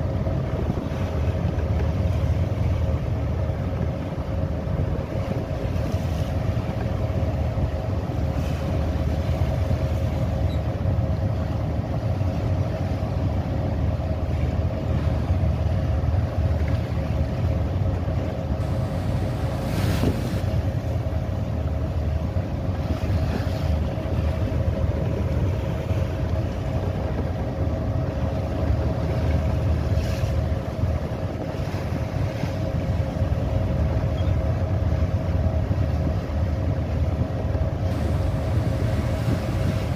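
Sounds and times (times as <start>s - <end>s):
boat engine running: 0.0s - 39.9s
wind and waves: 0.0s - 39.9s.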